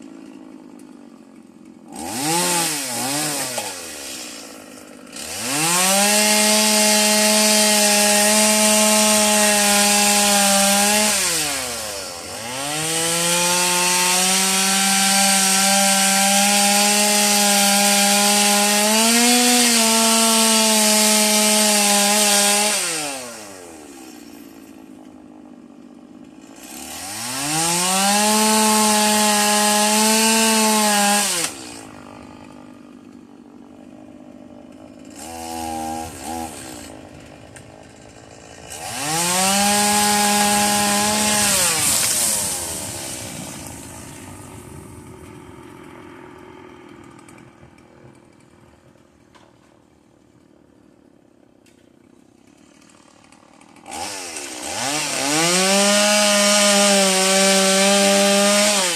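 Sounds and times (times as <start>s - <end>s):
chainsaw idling: 0.0s - 58.9s
chainsaw revving: 0.0s - 58.9s.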